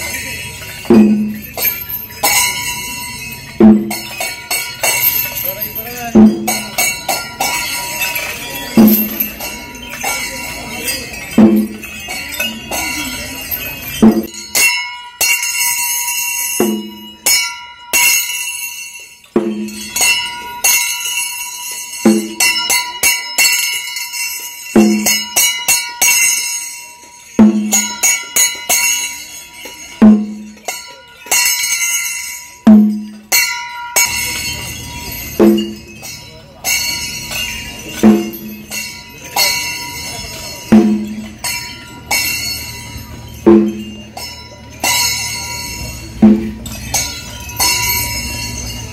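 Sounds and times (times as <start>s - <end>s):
bells ringing and jingling: 0.0s - 48.9s.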